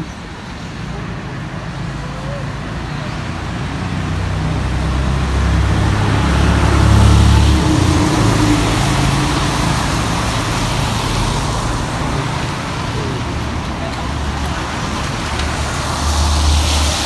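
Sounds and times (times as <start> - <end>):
road traffic hiss: 0.0 - 17.0
vehicle engine rumble passing: 0.0 - 17.0.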